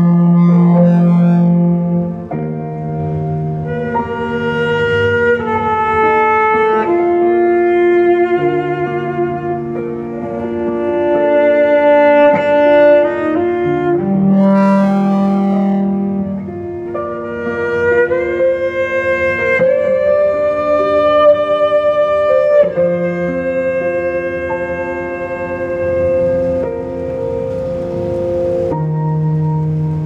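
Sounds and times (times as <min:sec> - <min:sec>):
bowed cello music: 0:00.0 - 0:30.0.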